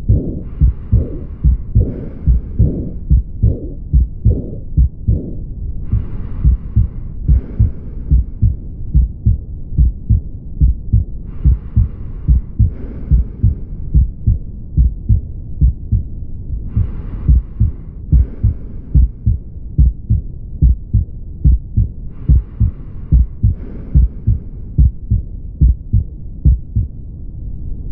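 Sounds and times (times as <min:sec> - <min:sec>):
heartbeat through stethoscope: 0:00.0 - 0:27.0
soft breath sounds: 0:00.0 - 0:27.0.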